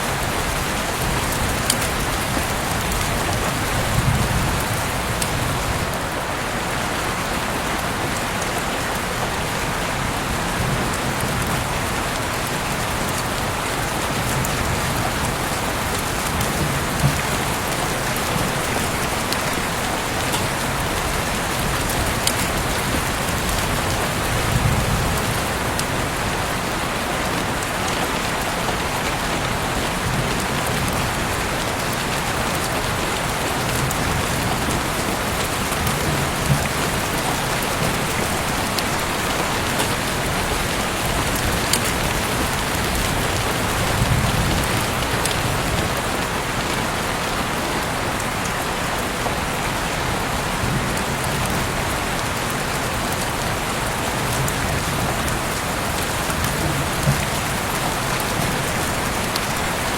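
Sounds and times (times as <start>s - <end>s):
heavy rain patter: 0.0s - 59.9s.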